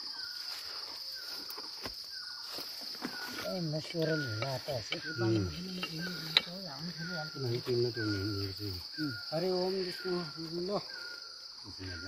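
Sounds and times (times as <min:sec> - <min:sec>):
insects droning: 0:00.0 - 0:12.0
short insect chirp: 0:00.0 - 0:12.0.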